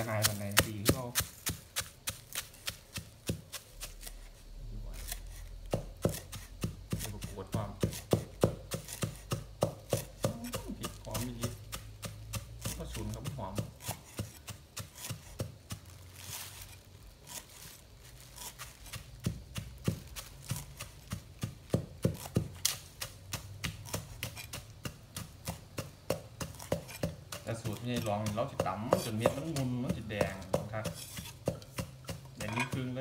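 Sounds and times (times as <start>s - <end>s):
pestle pounding in a mortar: 0.0s - 4.3s, 4.9s - 33.0s.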